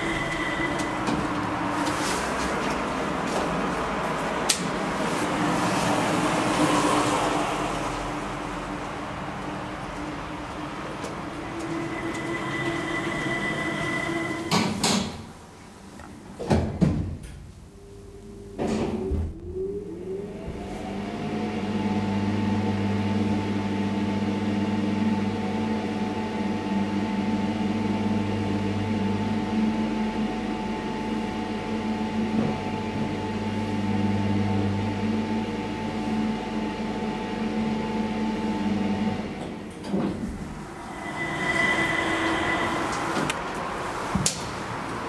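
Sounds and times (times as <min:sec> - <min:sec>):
elevator pump motor humming: 0:00.0 - 0:02.0, 0:02.6 - 0:14.8, 0:17.7 - 0:45.0.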